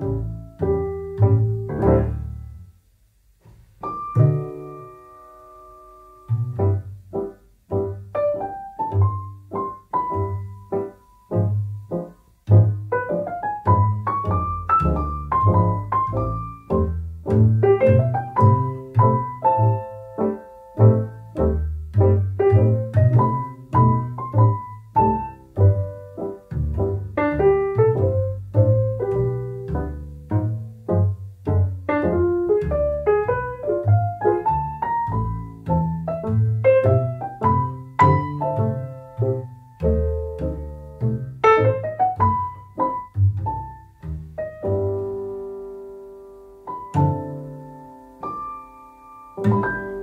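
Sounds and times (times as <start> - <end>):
gentle piano music: 0.0 - 2.8, 3.8 - 50.0.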